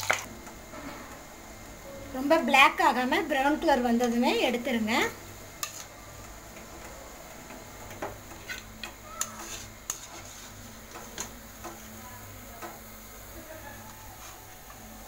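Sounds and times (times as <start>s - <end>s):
dough frying in oil: 0.0s - 15.0s.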